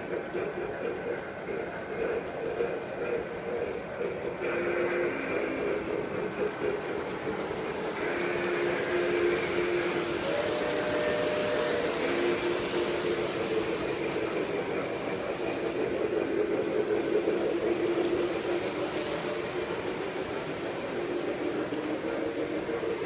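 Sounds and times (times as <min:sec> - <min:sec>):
model train wheels rumbling: 0:00.0 - 0:23.0.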